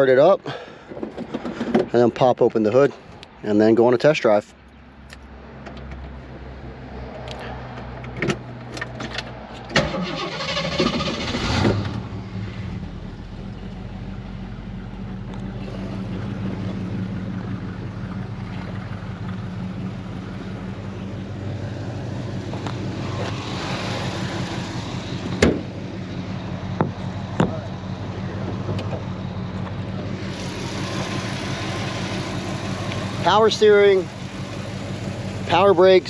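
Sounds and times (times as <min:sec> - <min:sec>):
car engine cranking and idling: 0:00.0 - 0:36.0.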